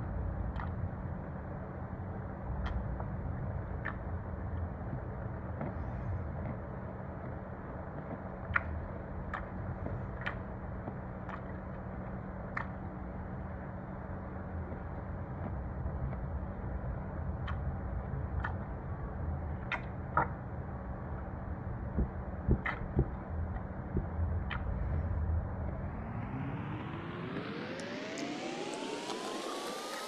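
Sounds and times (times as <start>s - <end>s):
low background rumble: 0.0s - 29.0s
faint hum: 0.0s - 30.0s.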